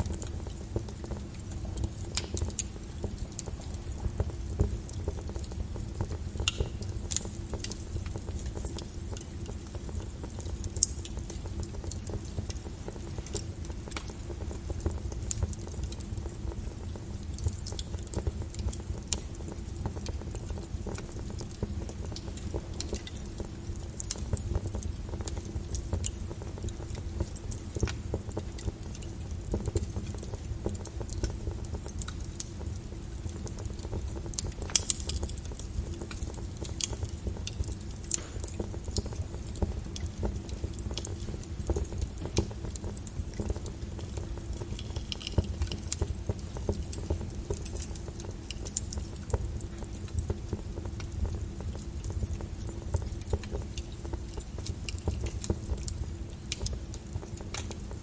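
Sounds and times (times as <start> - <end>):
steady deep hiss: 0.0 - 57.9
fire crackling and popping: 0.0 - 58.0.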